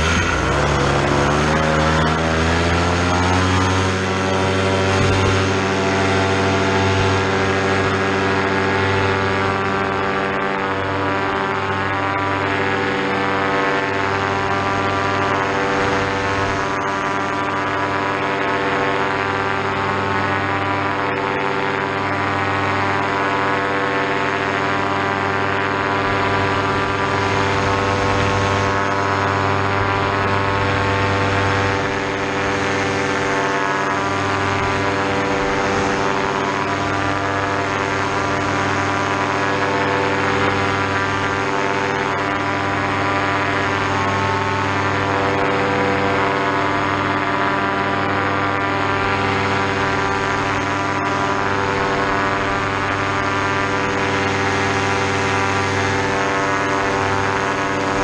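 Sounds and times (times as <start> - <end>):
two-stroke engine and propeller: 0.0 - 58.0.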